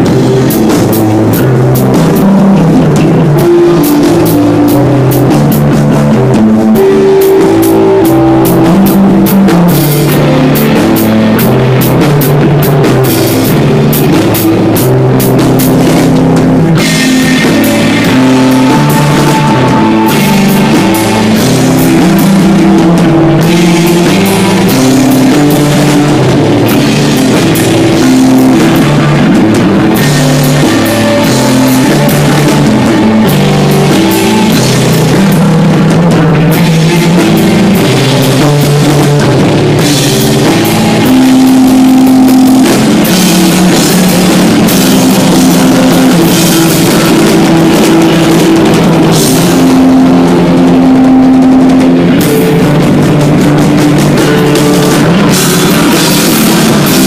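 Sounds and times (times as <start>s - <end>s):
bass guitar notes: 0.0s - 57.0s
electric guitar: 0.0s - 57.0s
rock drum kit beat: 0.0s - 57.0s.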